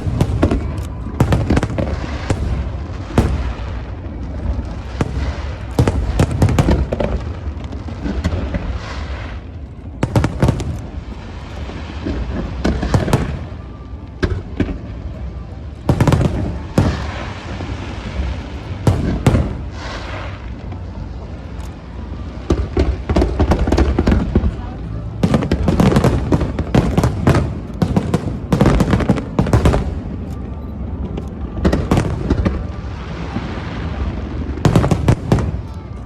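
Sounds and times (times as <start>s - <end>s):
fireworks bursting with bangs: 0.0s - 36.0s
low rumble of distant reports: 0.0s - 36.0s.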